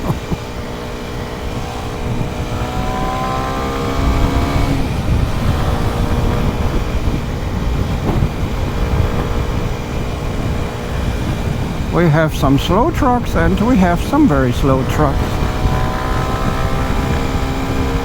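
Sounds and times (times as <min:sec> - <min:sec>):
wind rumble on microphone: 0:00.0 - 0:12.0, 0:15.1 - 0:18.0
motorcycle engine accelerating: 0:00.1 - 0:11.9, 0:14.8 - 0:18.0.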